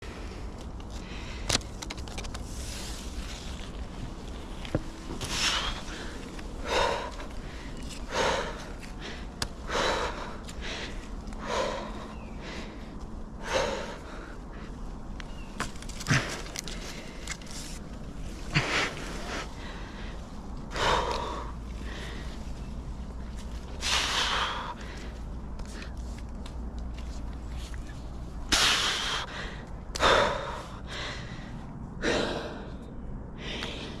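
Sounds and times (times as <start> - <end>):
person breathing hard: 0.0 - 1.8, 5.2 - 15.1, 16.0 - 26.3, 27.7 - 34.0.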